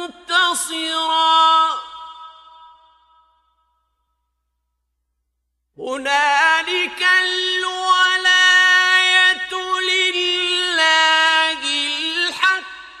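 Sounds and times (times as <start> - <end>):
man reciting melodically with echo: 0.0 - 3.4, 5.7 - 13.0.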